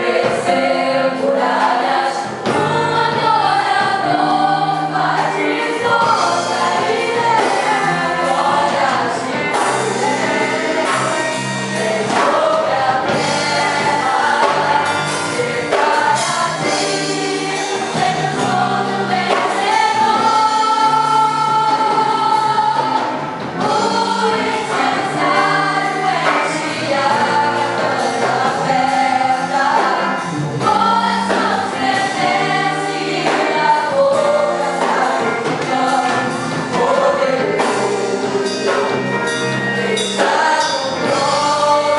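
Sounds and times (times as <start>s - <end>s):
full band playing: 0.0s - 41.9s
group singing worship song: 0.0s - 41.9s.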